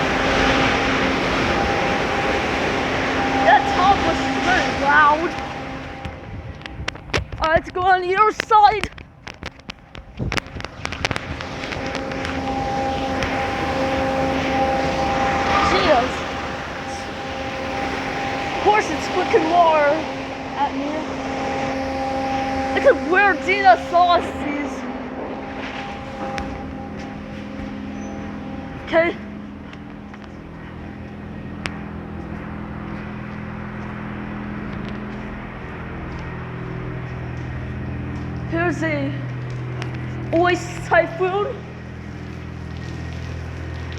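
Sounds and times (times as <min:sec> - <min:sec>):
pump hum: 0:00.0 - 0:43.9.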